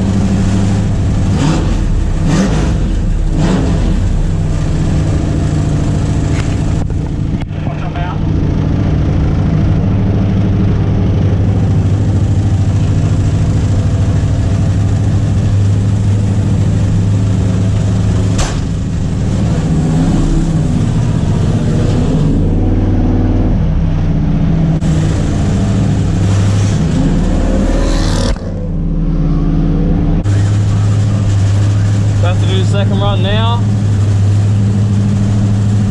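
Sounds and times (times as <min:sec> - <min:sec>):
race car engine running: 0:00.0 - 0:35.9.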